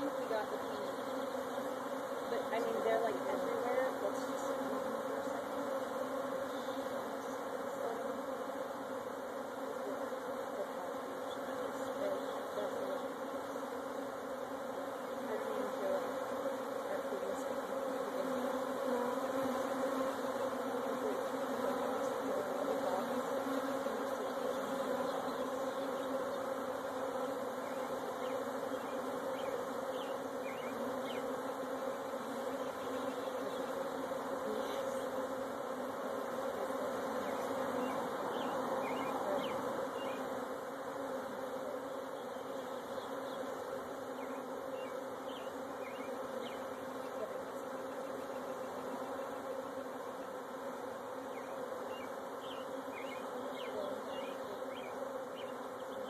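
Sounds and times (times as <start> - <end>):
bees swarming hum: 0.0 - 56.0.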